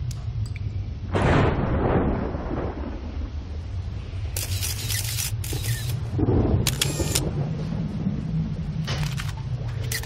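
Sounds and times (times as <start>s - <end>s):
deep bass drone: 0.0s - 10.0s.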